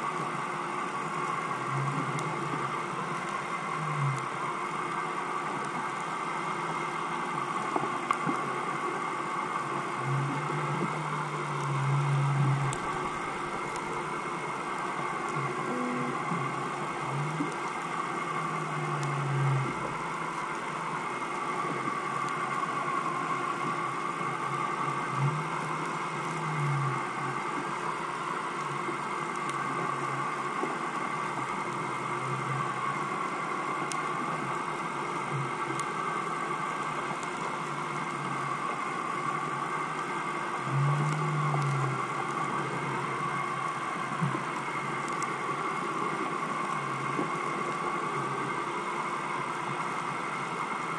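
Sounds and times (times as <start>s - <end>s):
underwater mechanical drone: 0.0s - 50.9s.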